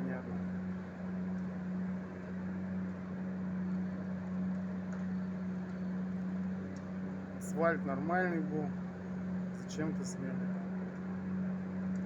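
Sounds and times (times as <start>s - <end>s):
road-works machinery engines humming: 0.0s - 12.0s.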